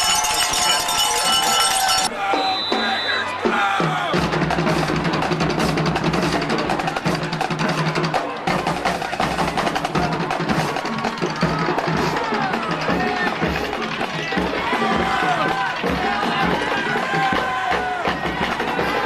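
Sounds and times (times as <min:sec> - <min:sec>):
marching band drums: 0:00.0 - 0:19.0.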